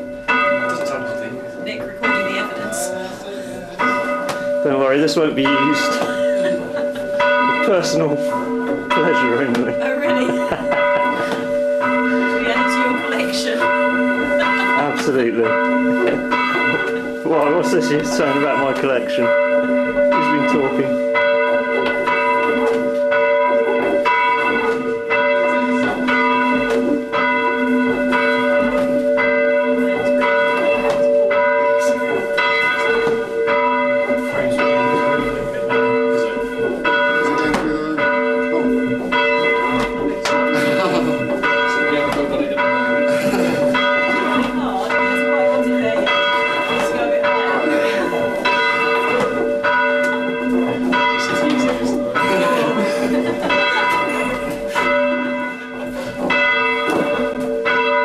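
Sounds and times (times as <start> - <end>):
church bells ringing in changes: 0.0 - 58.0.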